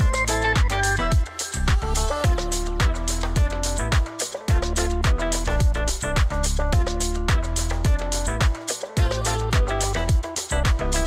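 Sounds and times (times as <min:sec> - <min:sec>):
electronic drum beat music: 0:00.0 - 0:11.0.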